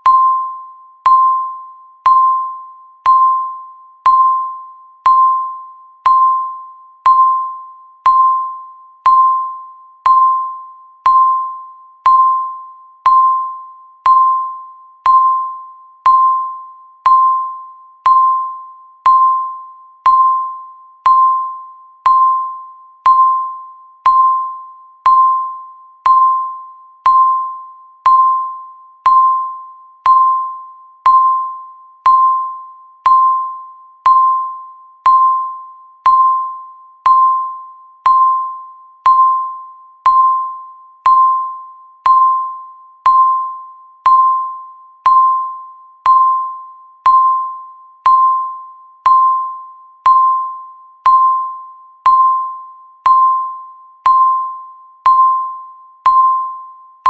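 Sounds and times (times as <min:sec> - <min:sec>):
countdown timer beeping: 0:00.0 - 0:57.0.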